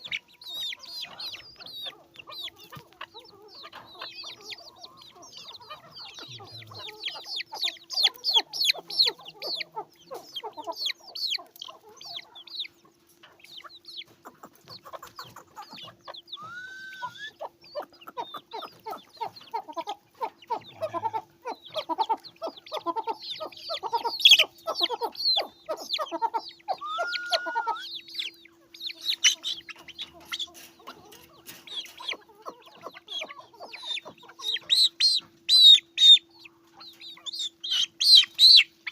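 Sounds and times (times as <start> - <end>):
chickens clucking: 0.0 - 38.9
chicks peeping: 0.0 - 38.9
faint steady hum: 0.0 - 38.9.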